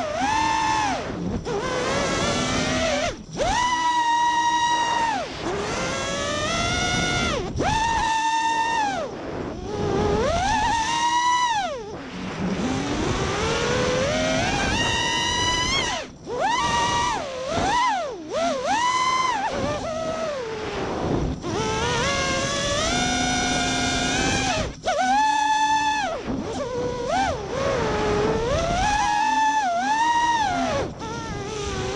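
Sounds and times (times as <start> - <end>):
quadcopter motors whining: 0.0 - 31.9.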